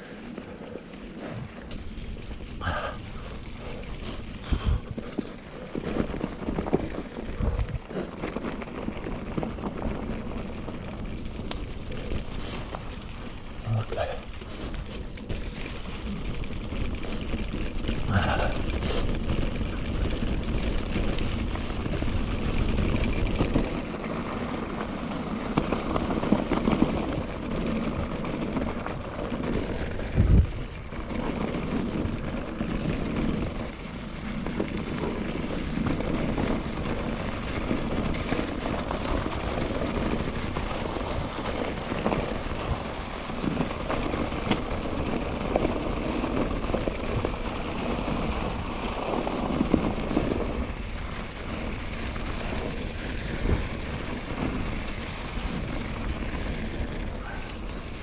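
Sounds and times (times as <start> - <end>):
bike tyres rolling over cobbles: 0.0 - 58.0
wind rumble on microphone: 1.2 - 58.0.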